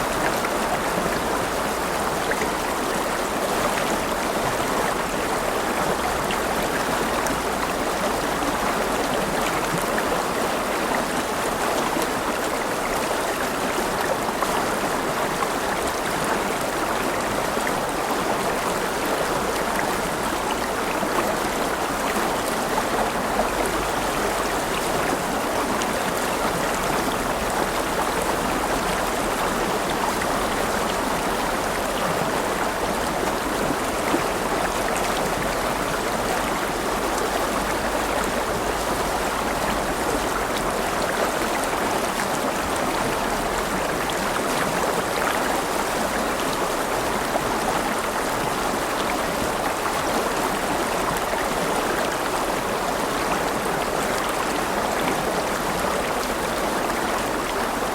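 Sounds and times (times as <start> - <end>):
river water over rocks: 0.0 - 57.9.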